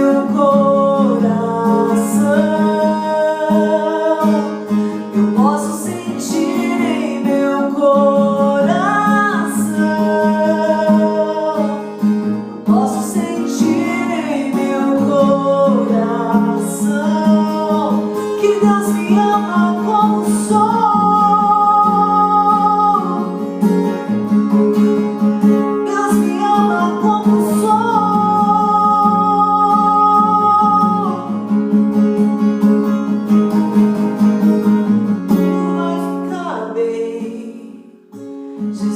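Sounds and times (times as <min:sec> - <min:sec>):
acoustic guitar melody: 0:00.0 - 0:38.9.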